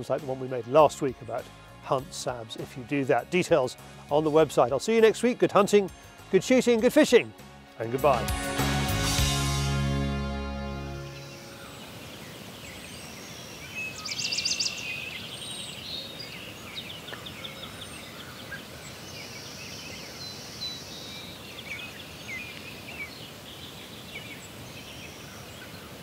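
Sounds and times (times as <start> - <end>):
songbirds chirping and trilling: 0.0 - 9.3, 10.4 - 26.0.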